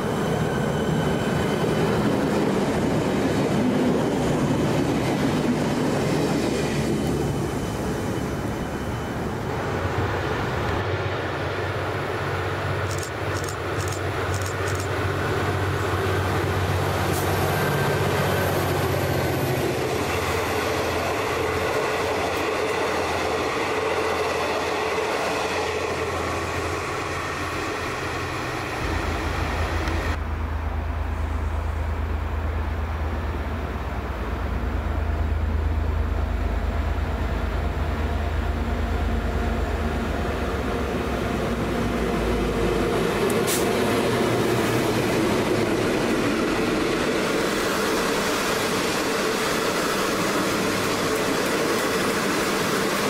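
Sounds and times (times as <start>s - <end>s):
diesel railcar running past: 0.0s - 53.0s
passenger train rumbling past: 0.0s - 53.0s.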